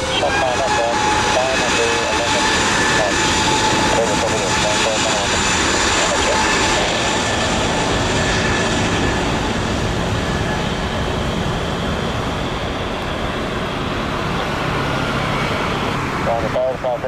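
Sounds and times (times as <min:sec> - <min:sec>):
jet engines roaring at takeoff: 0:00.0 - 0:17.0.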